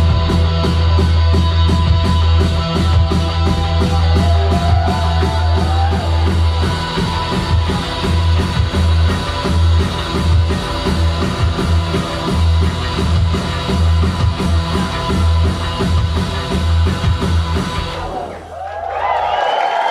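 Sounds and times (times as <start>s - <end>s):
live rock band instrumental: 0.0s - 18.3s.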